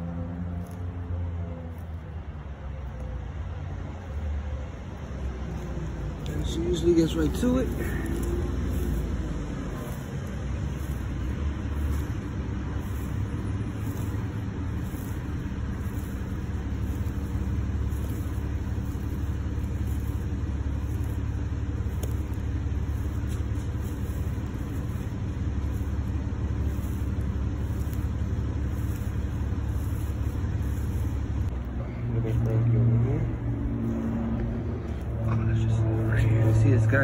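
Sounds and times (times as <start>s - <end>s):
low rumbling hum: 0.0s - 37.0s.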